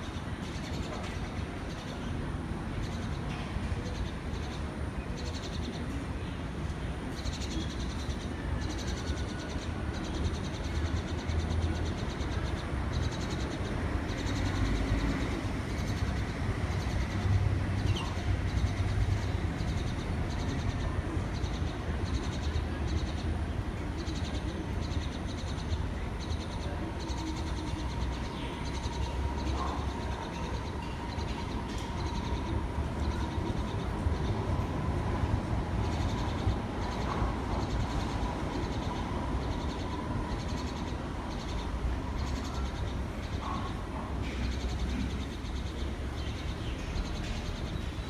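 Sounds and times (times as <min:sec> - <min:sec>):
city background rumble: 0:00.0 - 0:48.0.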